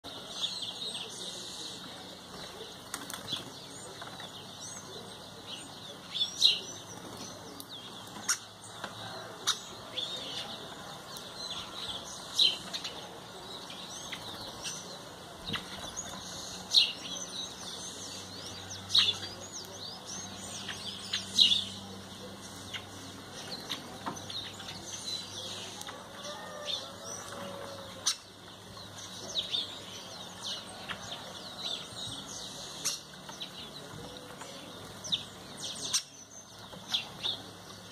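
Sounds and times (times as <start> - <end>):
birds twittering: 0.0 - 37.9.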